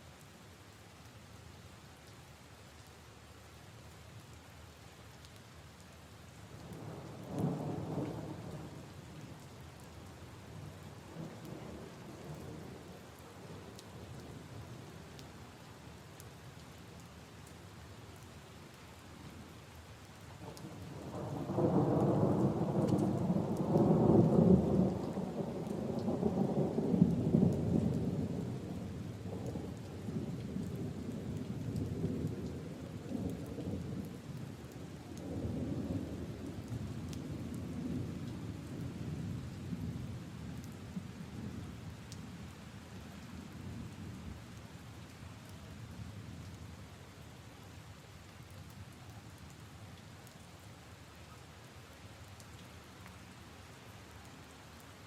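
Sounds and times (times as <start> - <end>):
rain on leaves and puddles: 0.0 - 55.0.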